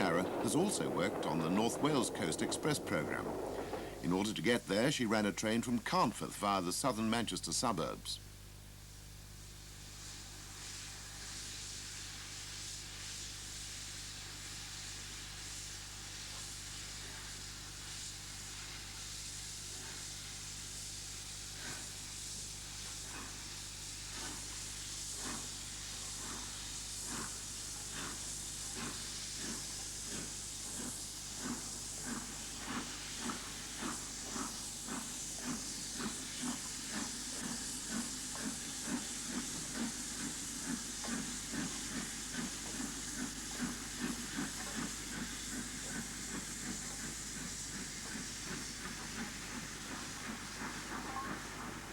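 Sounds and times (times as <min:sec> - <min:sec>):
hiss of steam: 0:00.0 - 0:08.2, 0:09.5 - 0:51.9
steam locomotive exhaust beats: 0:00.0 - 0:51.9.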